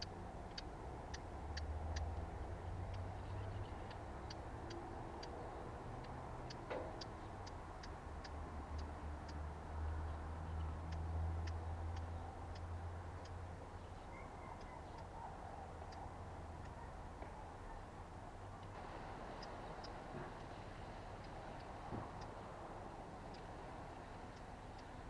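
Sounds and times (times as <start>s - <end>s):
songbird high ticking calls: 0.0s - 17.0s, 18.4s - 25.0s.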